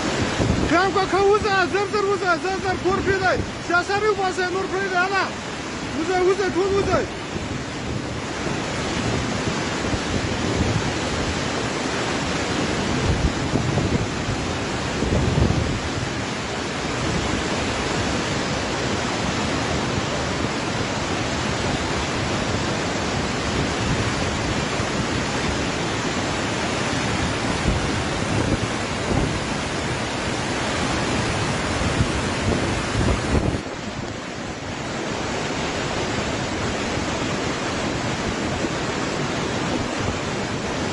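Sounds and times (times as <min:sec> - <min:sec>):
flood water rushing: 0:00.0 - 0:40.9.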